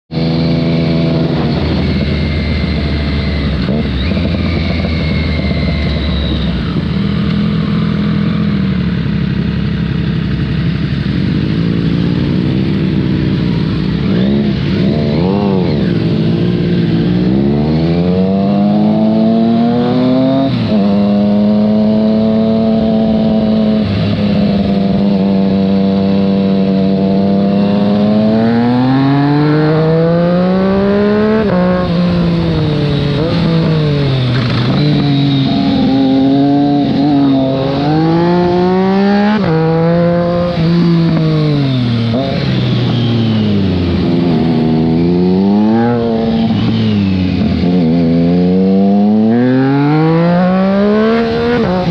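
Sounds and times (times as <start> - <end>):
motorcycle engine revving: 0.1 - 51.9.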